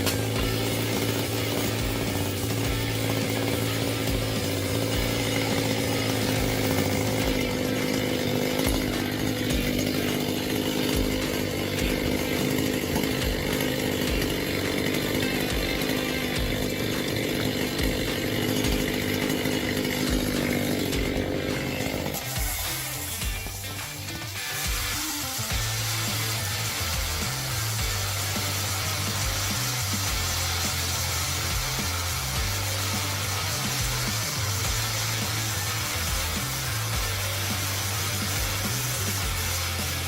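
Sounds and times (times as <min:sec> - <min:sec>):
chainsaw running: 0:00.0 - 0:40.0.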